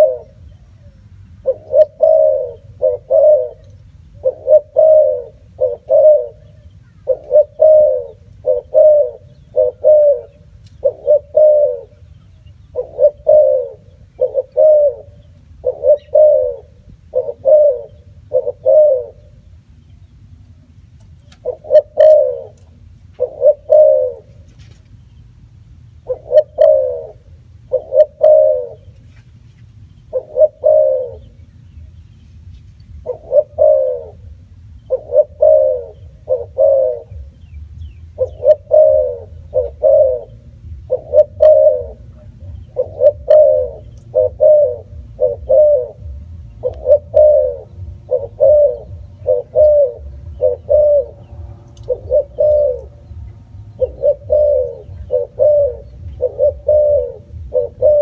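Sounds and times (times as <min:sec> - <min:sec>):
dove cooing: 0:00.0 - 0:19.6, 0:21.0 - 0:24.7, 0:25.9 - 0:29.2, 0:30.0 - 0:31.6, 0:32.9 - 0:58.0.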